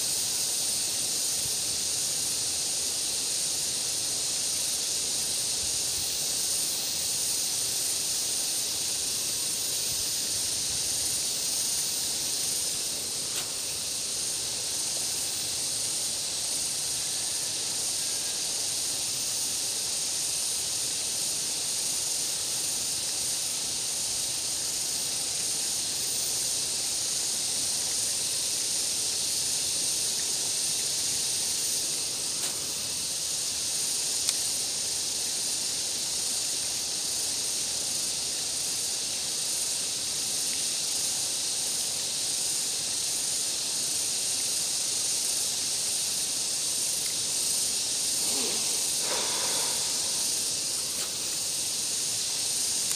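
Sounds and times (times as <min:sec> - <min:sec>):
high-pitched insect drone: 0:00.0 - 0:52.9.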